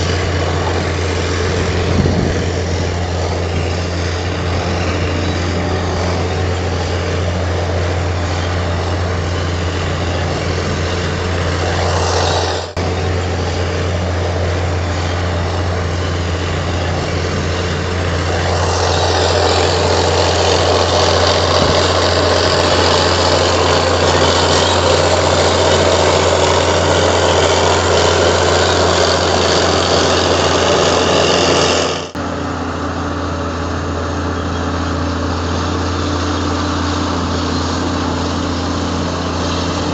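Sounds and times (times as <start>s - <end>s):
bulldozer diesel engine running: 0.0s - 39.9s
working noise: 0.0s - 39.9s.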